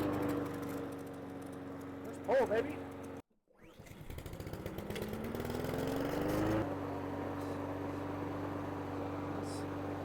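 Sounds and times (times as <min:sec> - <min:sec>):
lawn mower engine starting: 0:00.0 - 0:10.0.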